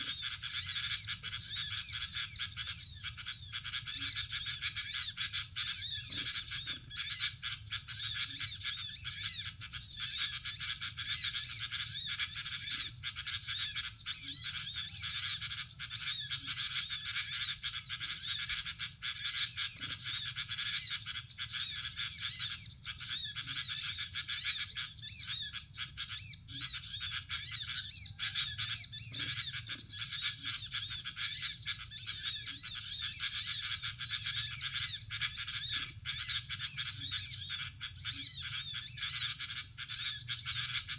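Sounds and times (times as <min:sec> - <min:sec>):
small birds twittering: 0:00.0 - 0:40.9.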